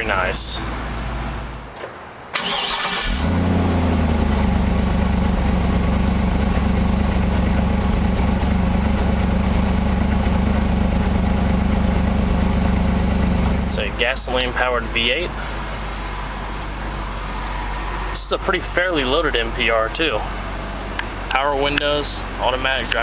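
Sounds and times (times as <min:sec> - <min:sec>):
truck engine idling: 0:00.0 - 0:23.0
truck engine cranking: 0:01.4 - 0:20.1.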